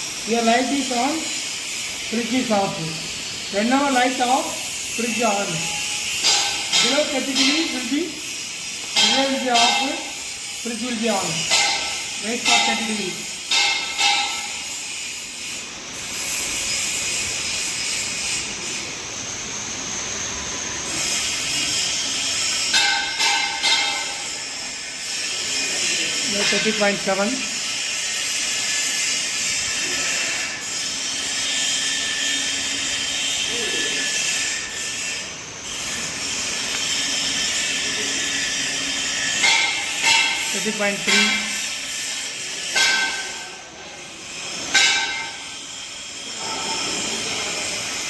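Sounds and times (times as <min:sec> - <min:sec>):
steady rushing hiss: 0:00.0 - 0:48.0.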